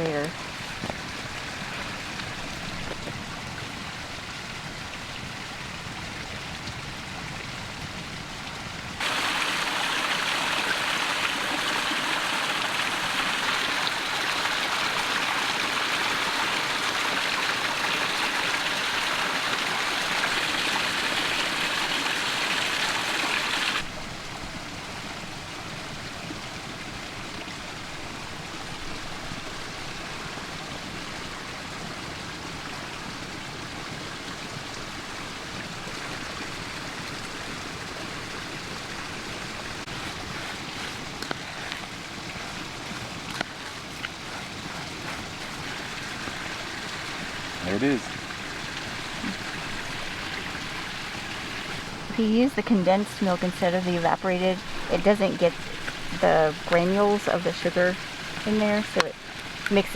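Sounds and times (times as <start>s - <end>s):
creek water rushing: 0.0s - 59.9s.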